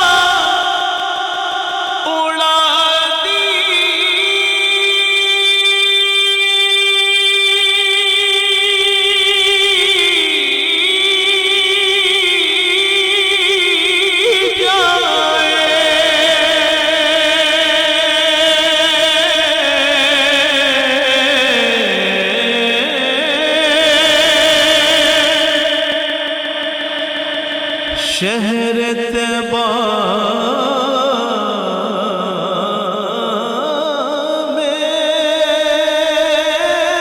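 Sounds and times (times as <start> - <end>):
man singing wordless melody: 0.0 - 37.0.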